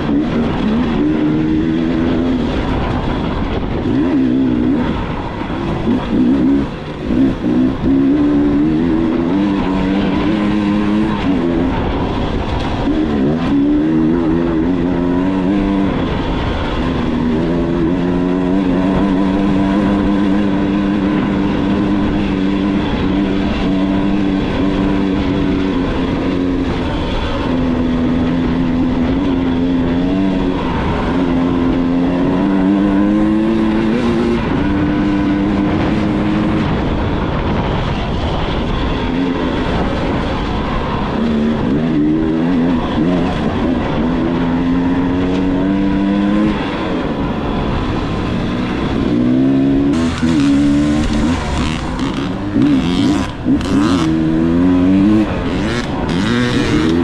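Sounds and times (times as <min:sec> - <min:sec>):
dirt bike engine revving: 0:00.0 - 0:37.0, 0:37.6 - 0:57.0
steady rushing noise: 0:00.0 - 0:57.0.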